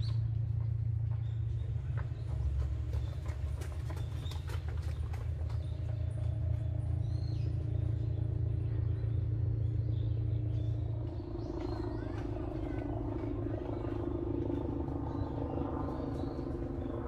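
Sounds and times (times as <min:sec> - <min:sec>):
faint even hum: 0:00.0 - 0:17.0
low mechanical rumble: 0:00.0 - 0:17.0.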